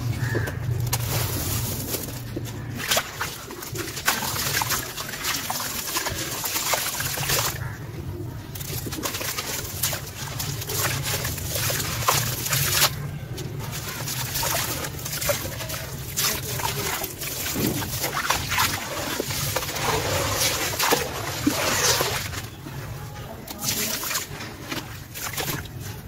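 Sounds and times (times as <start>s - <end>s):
gritty crumbling crackle: 0.0s - 22.6s.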